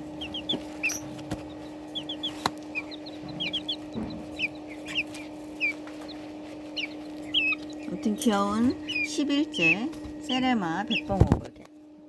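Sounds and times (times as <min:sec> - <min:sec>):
chicks peeping: 0:00.0 - 0:11.8
steady low hum: 0:00.0 - 0:12.0.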